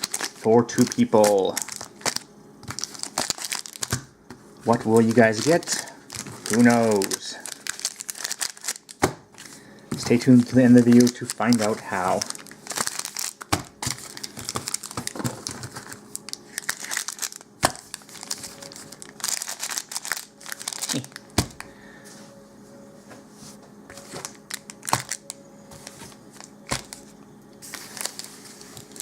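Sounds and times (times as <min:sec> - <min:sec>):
card pack wrappers crinkling: 0:00.0 - 0:21.7, 0:23.9 - 0:29.0.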